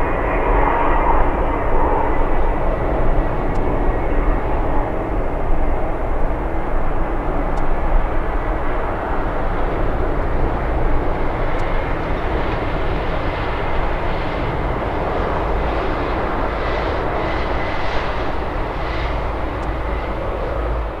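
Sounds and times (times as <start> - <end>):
jet engines at takeoff thrust: 0.0 - 21.0.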